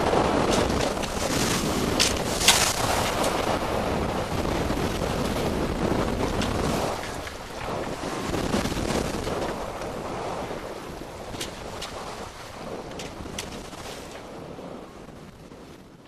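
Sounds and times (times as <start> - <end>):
waves washing against hull: 0.0 - 16.0
wind buffeting microphone: 0.0 - 16.0.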